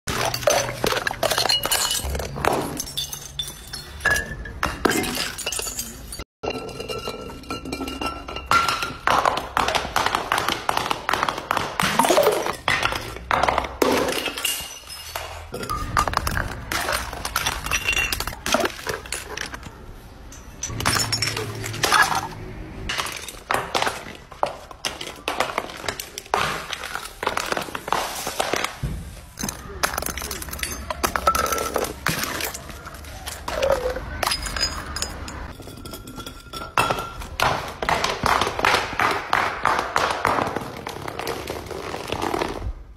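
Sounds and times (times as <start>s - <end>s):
bottles shattering: 0.1s - 9.5s, 11.6s - 28.7s, 29.3s - 39.3s
bottles clinking down concrete steps: 0.1s - 42.4s.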